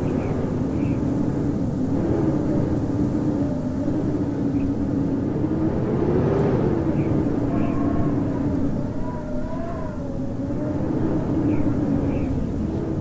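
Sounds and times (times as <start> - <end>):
howling blizzard wind: 0.0 - 13.0.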